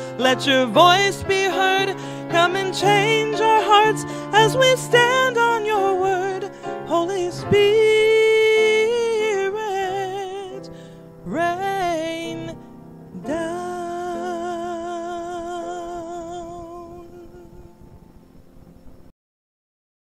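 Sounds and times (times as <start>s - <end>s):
woman singing a hymn: 0.0s - 17.9s
piano accompaniment: 0.0s - 19.1s.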